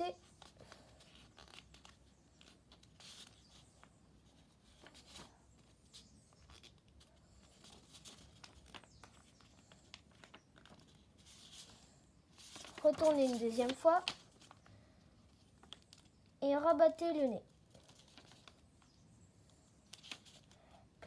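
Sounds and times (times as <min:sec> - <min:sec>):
paper rustling as folded: 0:00.0 - 0:19.1, 0:19.8 - 0:20.7.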